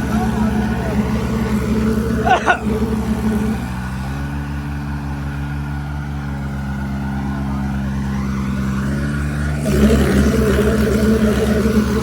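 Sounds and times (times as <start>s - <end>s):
tractor diesel engines running: 0.0s - 12.0s.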